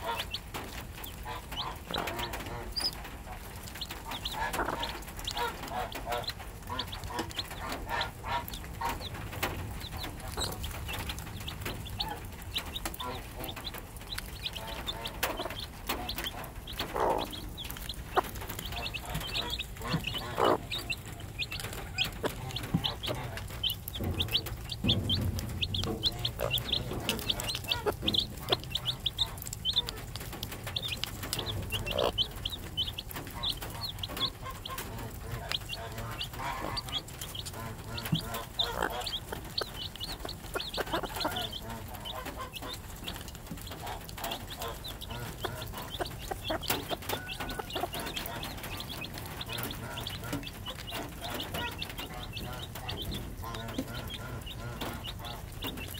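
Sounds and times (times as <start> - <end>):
beaks tapping plastic feeder: 0.0 - 55.9
chicks peeping: 0.0 - 55.9
hen clucking: 0.0 - 55.9.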